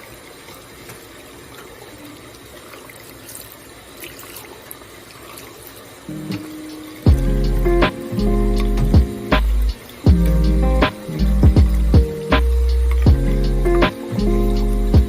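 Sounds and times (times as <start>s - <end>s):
small water splashes: 0.0s - 15.0s
water running from a tap: 0.0s - 15.0s.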